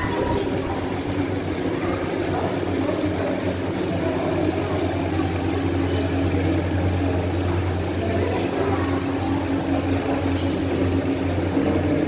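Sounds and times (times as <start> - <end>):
aquarium pumps humming: 0.0 - 12.0.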